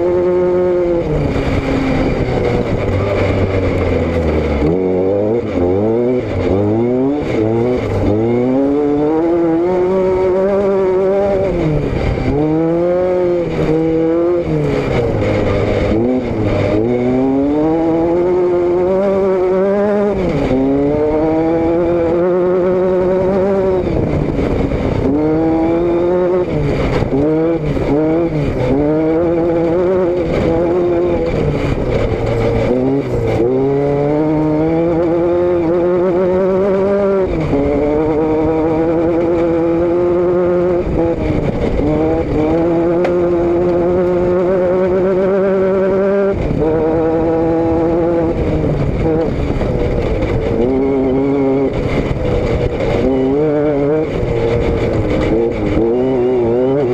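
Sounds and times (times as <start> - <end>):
car engine and exhaust accelerating: 0.0 - 56.9.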